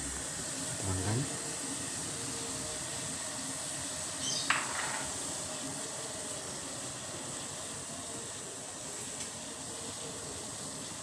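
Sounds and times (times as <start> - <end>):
hot water pouring: 0.0 - 11.0.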